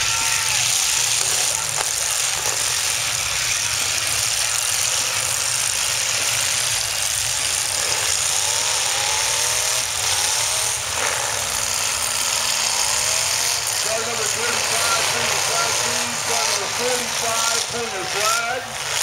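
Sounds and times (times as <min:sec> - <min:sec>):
car engines rumbling: 0:00.0 - 0:19.0
engine revving: 0:00.0 - 0:19.0.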